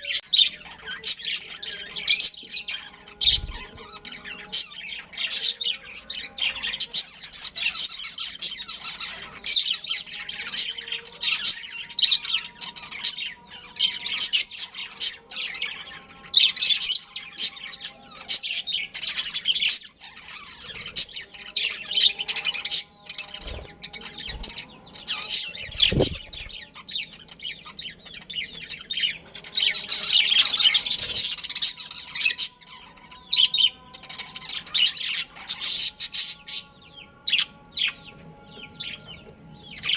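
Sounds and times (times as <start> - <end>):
budgerigars chirping: 0.0 - 36.7.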